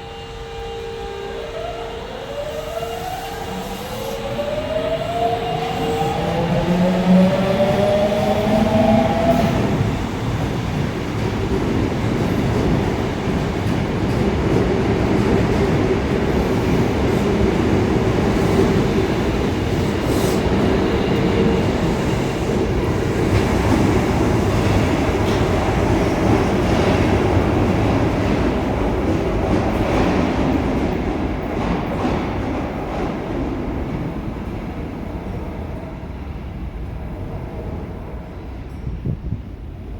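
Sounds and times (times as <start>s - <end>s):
subway train rumbling past: 0.0s - 39.9s.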